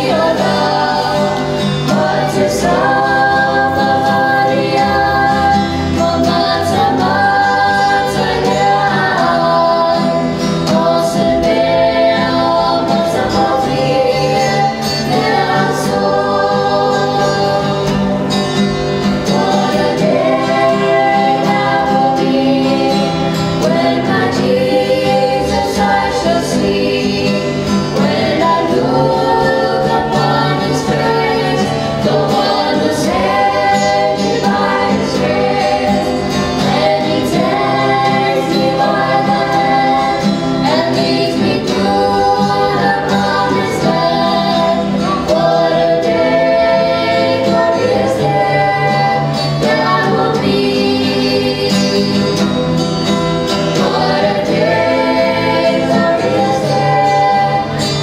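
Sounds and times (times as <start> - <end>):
group singing gospel song: 0.0 - 58.0
strummed acoustic guitar: 0.0 - 58.0.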